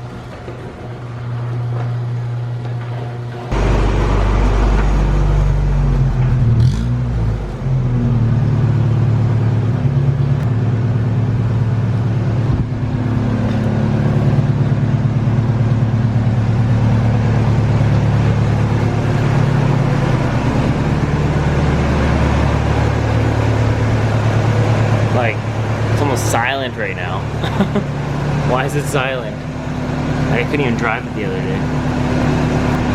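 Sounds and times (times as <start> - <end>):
car engine running: 0.0 - 32.9.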